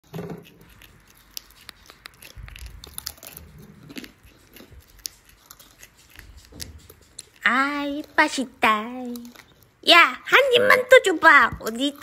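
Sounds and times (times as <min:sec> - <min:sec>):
small animal chewing dry snack: 0:00.0 - 0:12.0.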